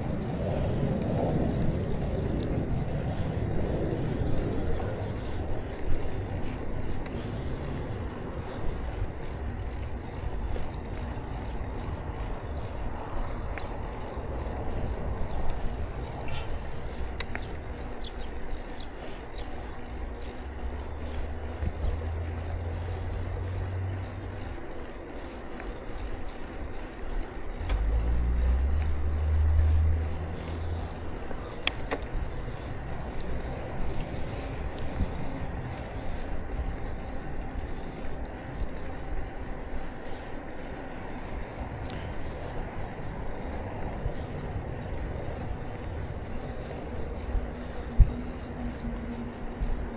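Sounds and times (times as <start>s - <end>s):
tyre and road noise: 0.0s - 49.9s.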